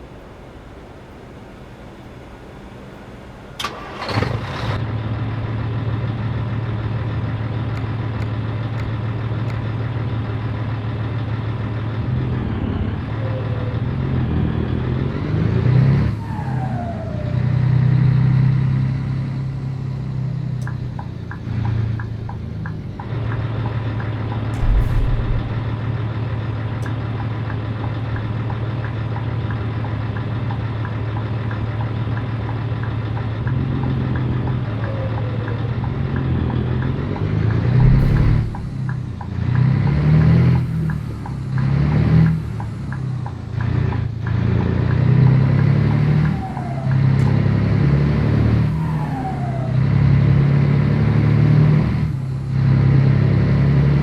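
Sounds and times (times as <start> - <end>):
truck diesel engine running: 0.0 - 50.2.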